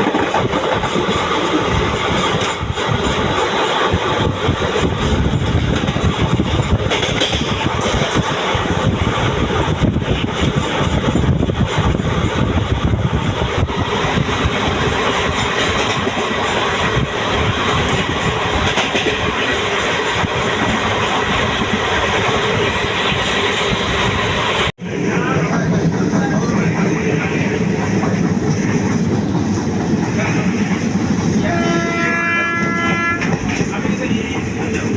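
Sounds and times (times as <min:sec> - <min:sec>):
train wheels rolling on rails: 0:00.0 - 0:34.9.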